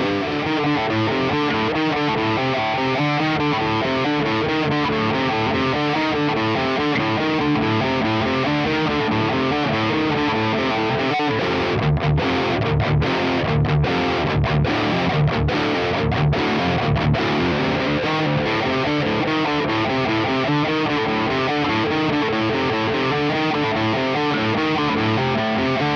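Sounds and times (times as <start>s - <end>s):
distorted electric guitar: 0.0s - 25.9s.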